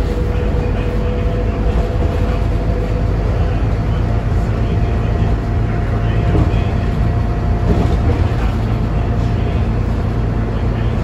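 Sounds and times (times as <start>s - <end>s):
bus diesel engine running: 0.0s - 11.0s
road noise rumble: 0.0s - 11.0s.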